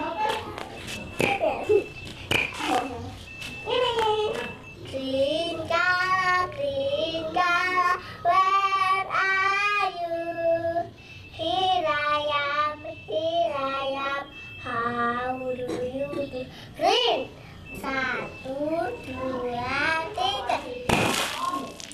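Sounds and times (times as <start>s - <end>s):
child singing: 2.6s - 21.8s.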